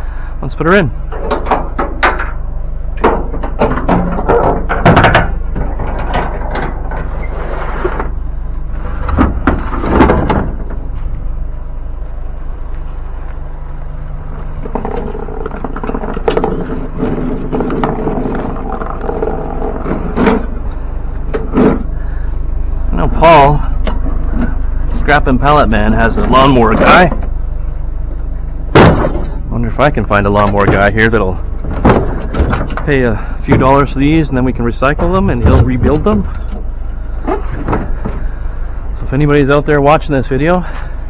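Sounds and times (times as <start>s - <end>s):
truck engine humming: 0.0s - 41.0s.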